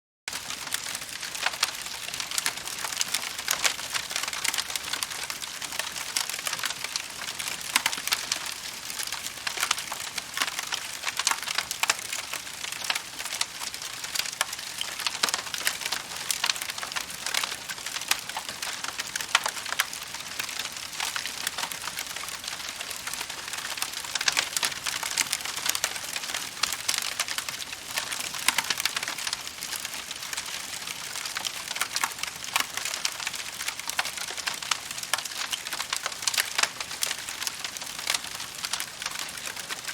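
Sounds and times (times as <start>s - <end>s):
wood fire crackling: 0.3s - 39.9s.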